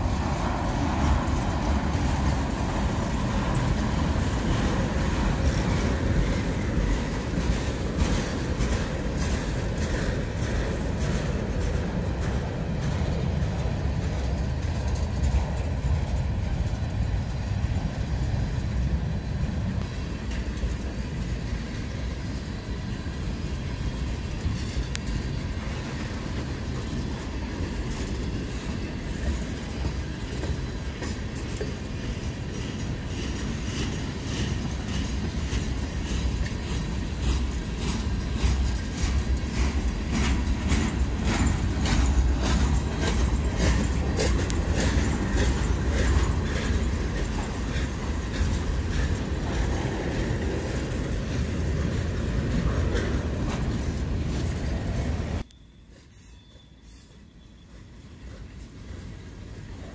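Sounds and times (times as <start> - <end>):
wheels clicking over track: 0.0 - 55.5
train wheels rumbling on rail: 0.0 - 59.9.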